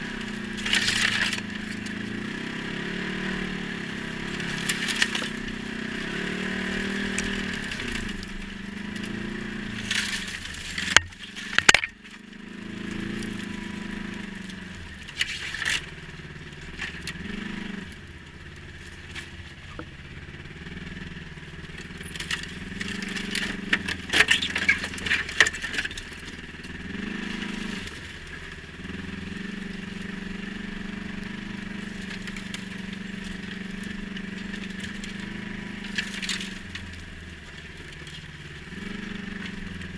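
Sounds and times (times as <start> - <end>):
crunching and crackling: 0.0 - 2.2, 3.8 - 20.0, 21.1 - 39.9
atv engine revving: 0.0 - 39.9.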